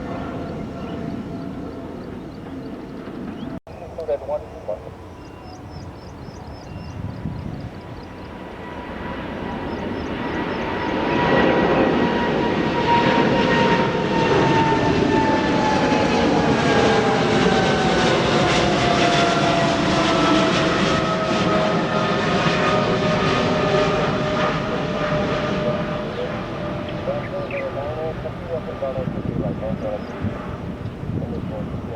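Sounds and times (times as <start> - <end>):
jet airliner engine roar: 0.0 - 31.9
jet engine whine: 0.0 - 31.9.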